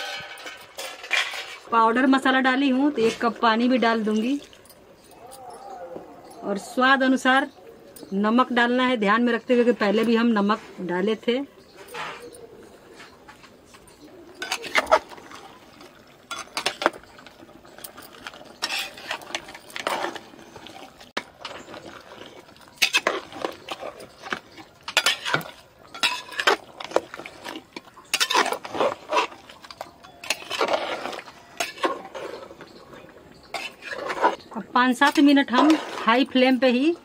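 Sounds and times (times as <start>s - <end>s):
metal ladle scraping pot: 0.0s - 5.2s, 9.6s - 37.0s.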